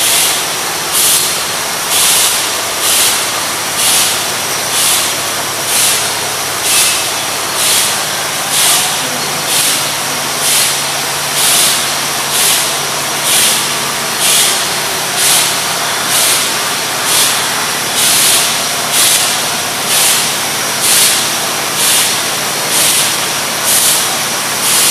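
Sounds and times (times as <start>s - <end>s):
bottling machine running: 0.0s - 24.9s
sharp rhythmic hiss: 0.0s - 24.9s.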